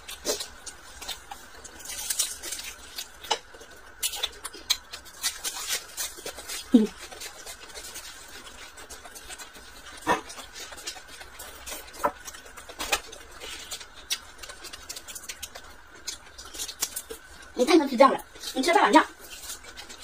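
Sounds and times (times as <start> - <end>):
crunchy chewing of green onion: 0.0 - 20.0.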